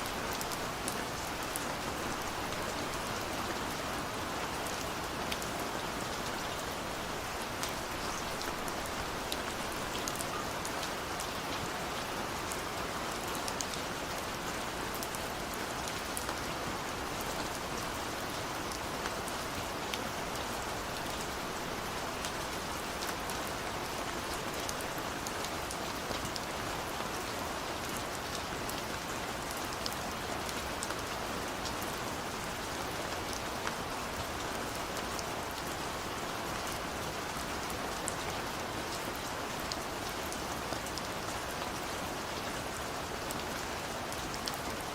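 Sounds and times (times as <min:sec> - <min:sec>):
rain on a window pane: 0:00.0 - 0:44.9.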